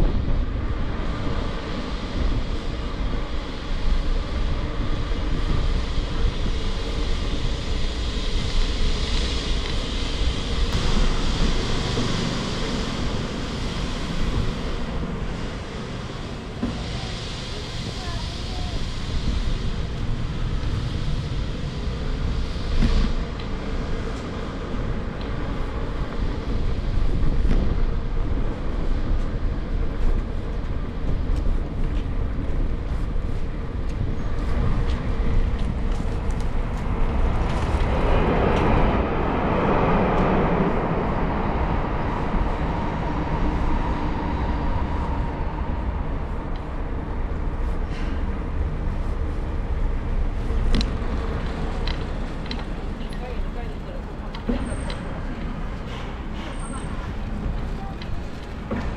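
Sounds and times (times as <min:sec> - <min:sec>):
street rumble: 0:00.0 - 0:58.9.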